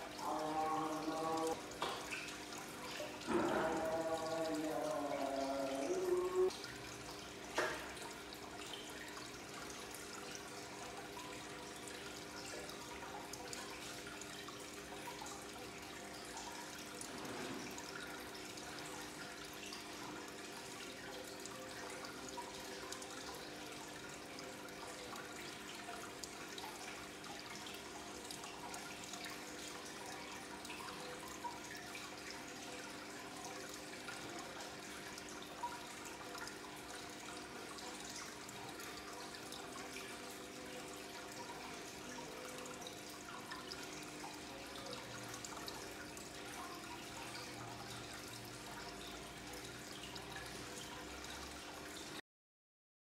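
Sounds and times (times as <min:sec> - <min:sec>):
faint steady hum: 0:00.0 - 0:52.0
aquarium water bubbling: 0:00.0 - 0:52.2.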